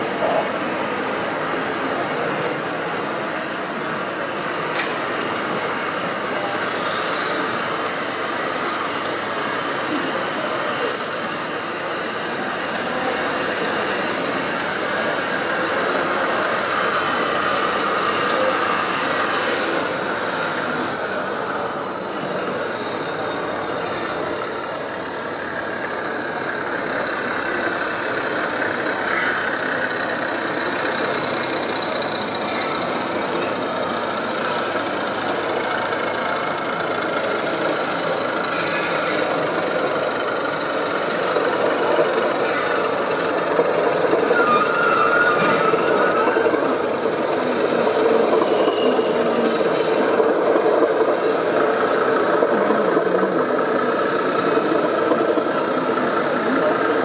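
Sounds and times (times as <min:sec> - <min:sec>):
exhibition hall background noise: 0:00.0 - 0:57.0
model trains running: 0:00.0 - 0:57.0.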